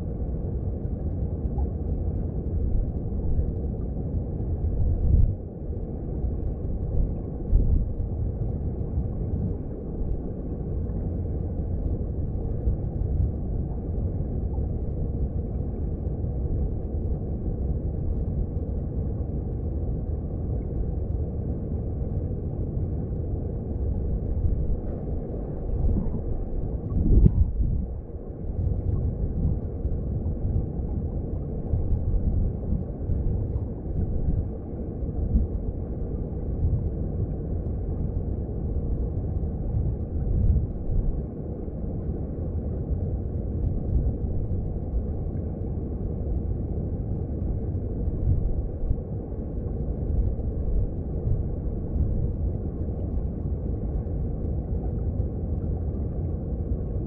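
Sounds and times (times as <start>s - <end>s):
stream water heard underwater: 0.0s - 57.0s.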